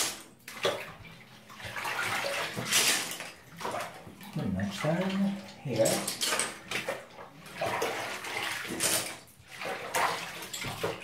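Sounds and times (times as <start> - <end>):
hands splashing in soapy water: 0.0 - 11.0.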